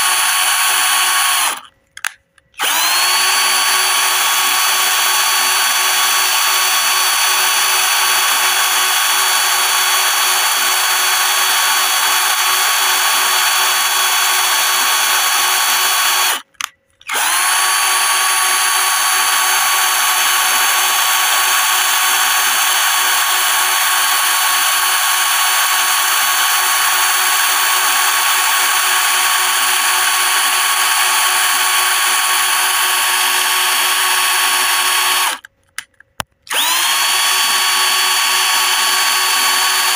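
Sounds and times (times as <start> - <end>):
electric drill motor whine: 0.0 - 1.7, 2.6 - 35.5, 36.5 - 39.9.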